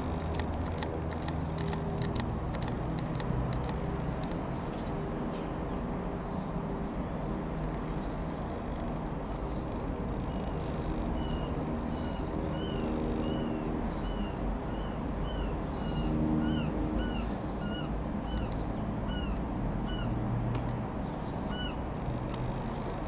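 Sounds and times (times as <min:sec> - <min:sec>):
airplane engine drone overhead: 0:00.0 - 0:23.0
bird chirping: 0:00.0 - 0:23.0.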